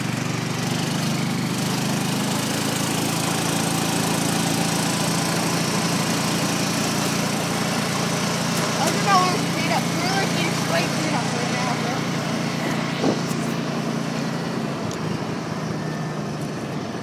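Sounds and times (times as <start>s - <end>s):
small vehicle engine running: 0.0s - 17.0s
wind and road noise: 0.0s - 17.0s.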